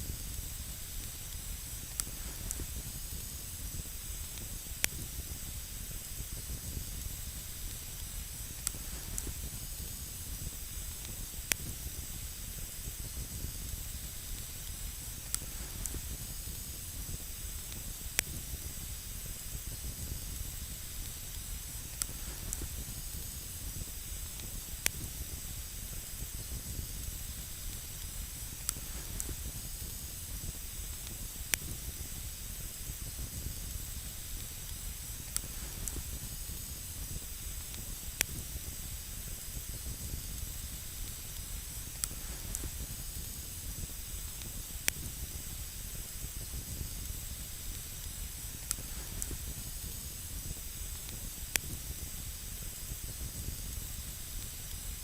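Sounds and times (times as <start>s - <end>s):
campfire hissing: 0.0s - 55.0s
low fire rumble: 0.0s - 55.0s
sharp fire crackles: 0.0s - 55.0s.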